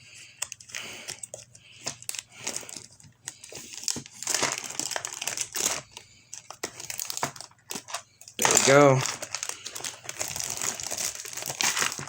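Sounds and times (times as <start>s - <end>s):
packaging crinkling and rustling: 0.2s - 12.0s.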